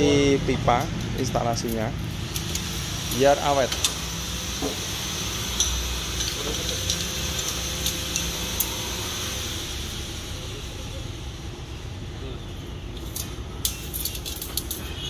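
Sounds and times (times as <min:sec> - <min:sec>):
low workshop hum: 0:00.0 - 0:15.0.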